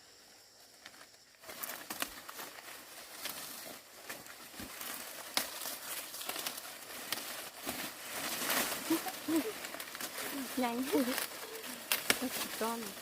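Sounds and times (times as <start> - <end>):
dry corn leaves rustling: 0.5 - 13.0
corn stalks snapping: 1.4 - 13.0.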